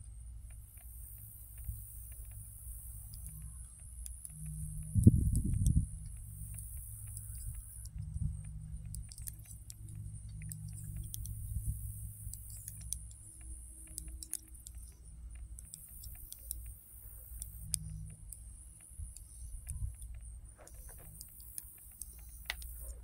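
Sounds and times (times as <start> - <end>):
low steady rumble: 0.0 - 23.0
knitting needles clicking: 0.5 - 23.0.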